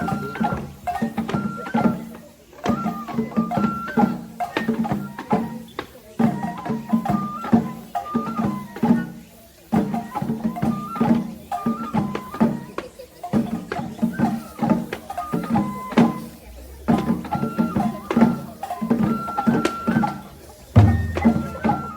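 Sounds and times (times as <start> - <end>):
high flute melody: 0.0 - 21.9
rhythmic drum strikes: 0.0 - 21.9.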